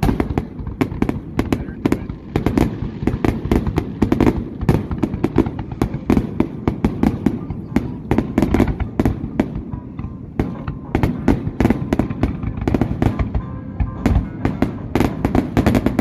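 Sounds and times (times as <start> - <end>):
continuous low rumble: 0.0 - 16.0.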